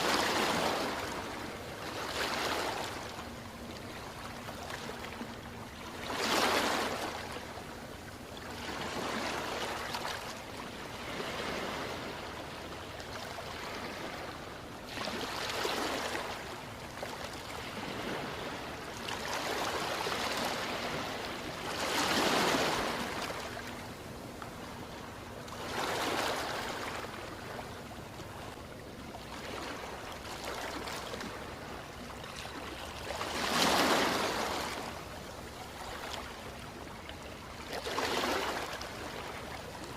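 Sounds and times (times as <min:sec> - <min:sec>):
ocean waves on shore: 0:00.0 - 0:39.9.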